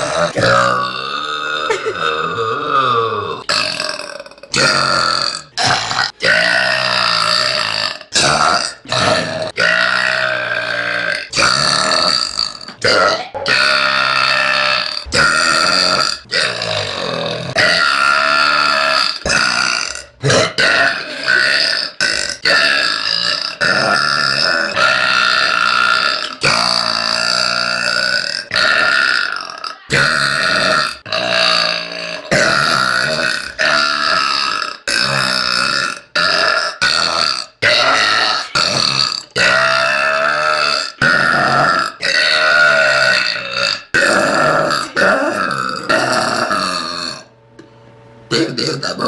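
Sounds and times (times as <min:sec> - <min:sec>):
woman burping: 0:00.0 - 0:47.3.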